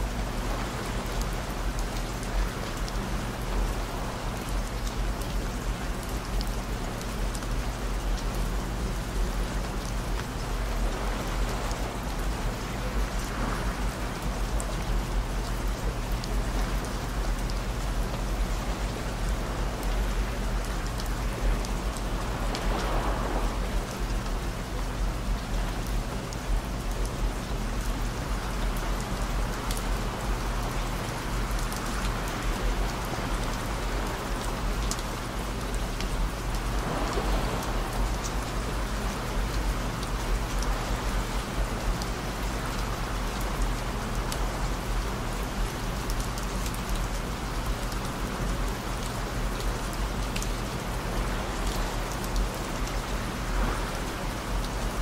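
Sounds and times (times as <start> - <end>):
rain falling steadily: 0.0 - 55.0
raindrop ticks: 4.3 - 13.3, 14.2 - 23.0, 23.8 - 55.0.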